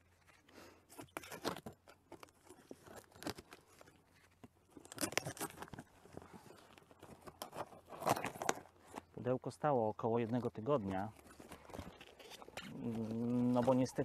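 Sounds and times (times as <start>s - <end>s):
cardboard crackling and scraping: 0.0s - 14.0s
tape tearing: 0.2s - 9.3s, 10.3s - 14.0s.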